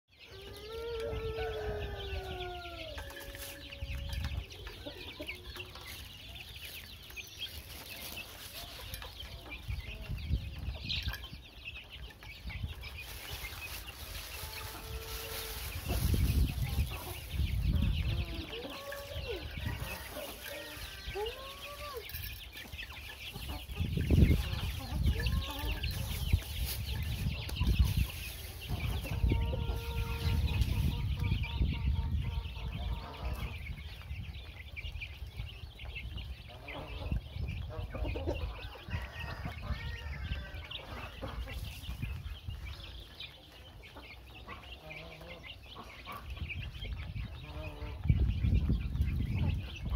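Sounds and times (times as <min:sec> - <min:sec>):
chicks chirping: 0:00.1 - 0:49.9.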